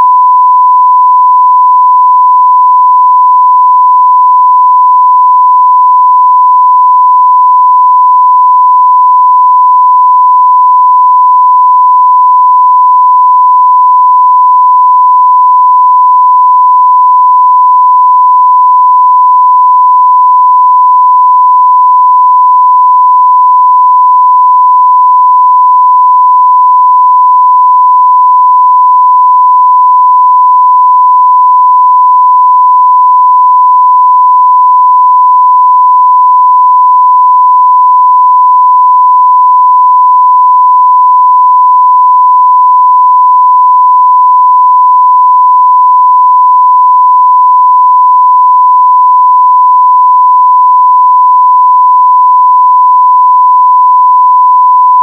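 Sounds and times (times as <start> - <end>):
sine-wave test tone: 0.0 - 55.0.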